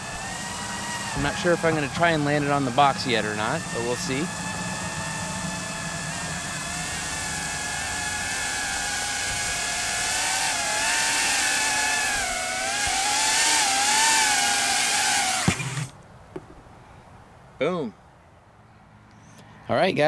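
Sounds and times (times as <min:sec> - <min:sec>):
quadcopter motors whining: 0:00.0 - 0:16.5.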